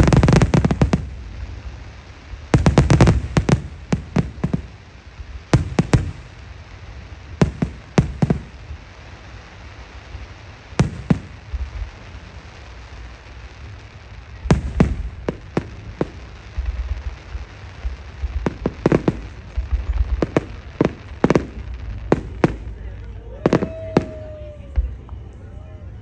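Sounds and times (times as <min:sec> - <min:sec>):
fireworks bursting: 0:00.0 - 0:26.0
low rumble: 0:00.0 - 0:26.0.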